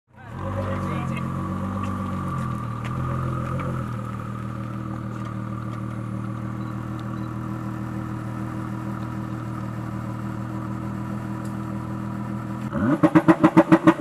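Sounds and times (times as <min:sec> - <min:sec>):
car engine running steadily: 0:00.1 - 0:14.0.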